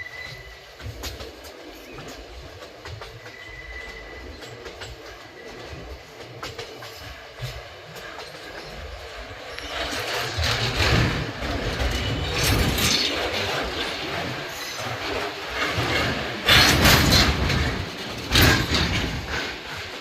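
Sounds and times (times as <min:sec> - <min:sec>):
train rumbling on track: 0:00.0 - 0:20.0
wheels clicking on rails: 0:00.0 - 0:20.0.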